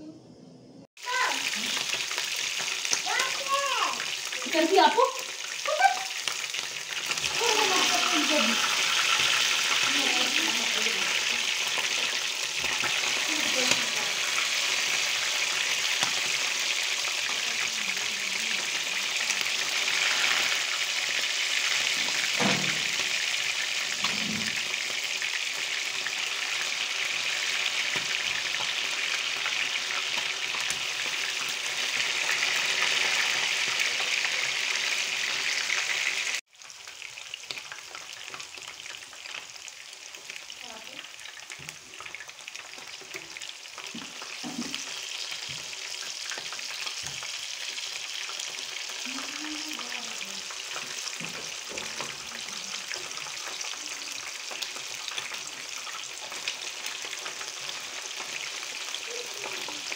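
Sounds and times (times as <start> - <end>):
chicken frying in oil: 1.0 - 59.9.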